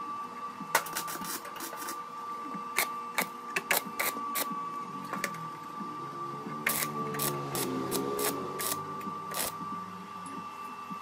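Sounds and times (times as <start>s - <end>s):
high-pitched hum: 0.0s - 11.0s.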